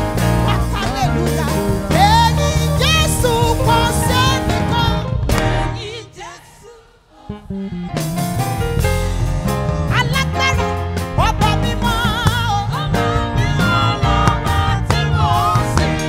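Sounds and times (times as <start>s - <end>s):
gospel band with drum kit: 0.0s - 16.0s
woman singing lead vocal: 0.7s - 8.0s, 9.6s - 16.0s.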